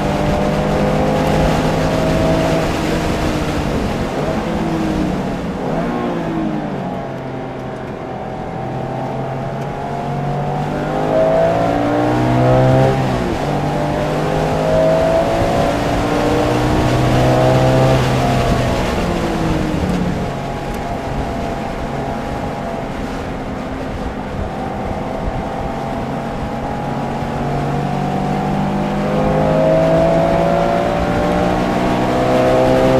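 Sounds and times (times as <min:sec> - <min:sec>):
car engine revving hard: 0:00.0 - 0:32.9.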